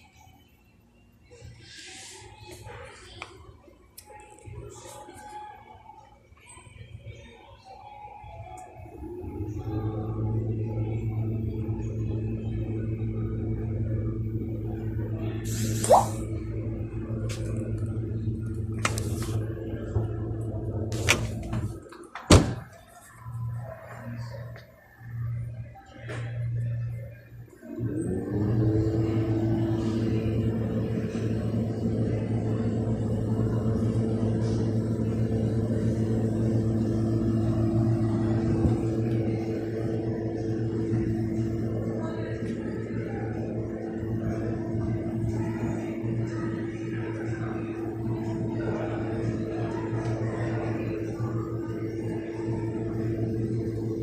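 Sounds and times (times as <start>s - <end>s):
refrigerator humming: 0.0s - 54.0s.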